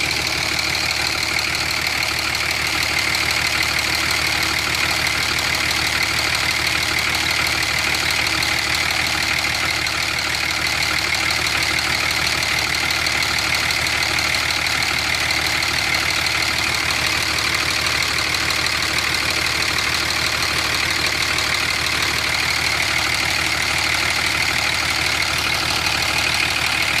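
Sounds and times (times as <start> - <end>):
diesel engine idling with clatter: 0.0 - 27.0.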